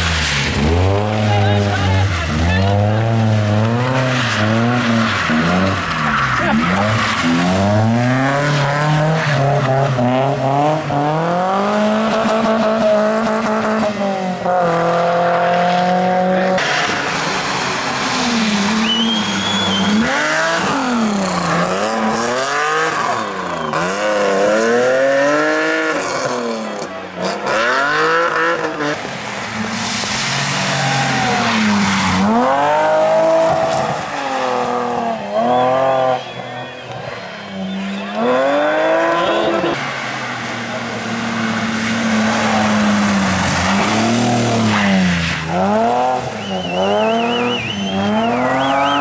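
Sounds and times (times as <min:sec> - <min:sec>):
rally car engines revving: 0:00.0 - 0:49.0.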